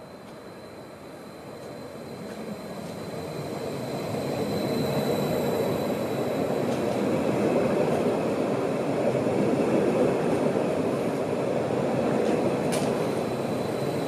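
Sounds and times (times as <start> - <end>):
electric train rolling: 0.0 - 14.0.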